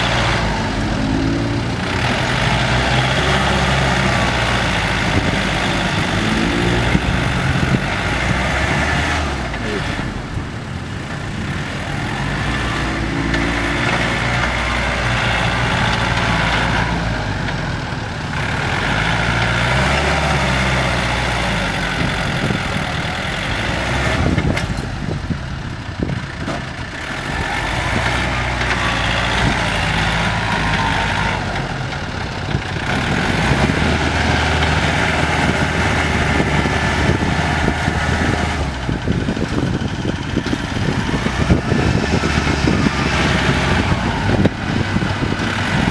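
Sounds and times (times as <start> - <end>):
tractor engines revving: 0.0 - 45.9.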